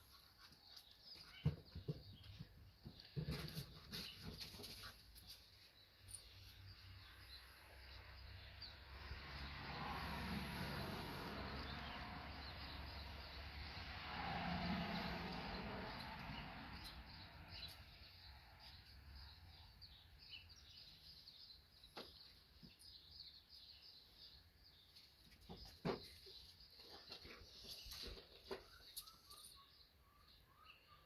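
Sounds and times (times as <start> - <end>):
small birds chirping: 0.0 - 14.0, 14.9 - 31.0.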